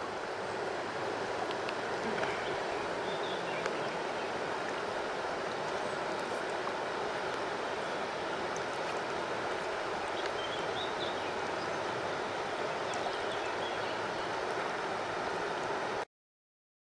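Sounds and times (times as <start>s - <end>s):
river water flowing: 0.0s - 16.1s.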